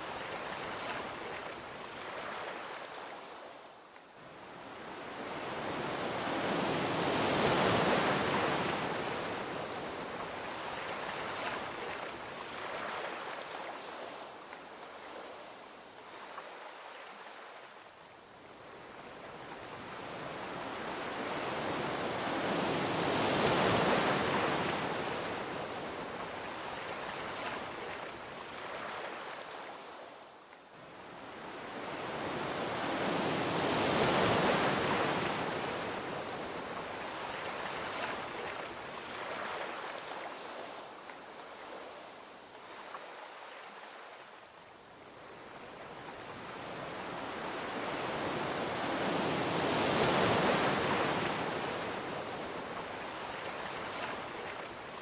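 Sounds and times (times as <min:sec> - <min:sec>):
ocean waves washing onto beach: 0:00.0 - 0:55.0.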